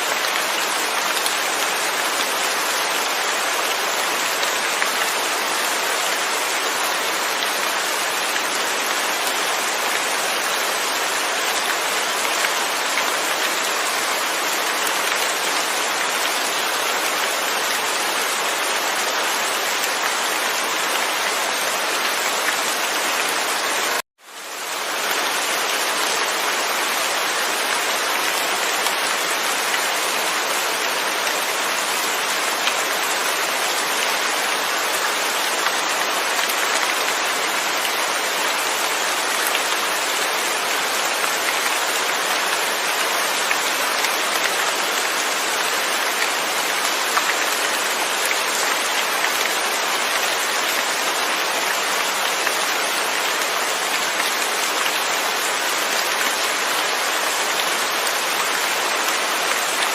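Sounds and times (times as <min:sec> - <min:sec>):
dense rain falling: 0:00.0 - 0:59.9.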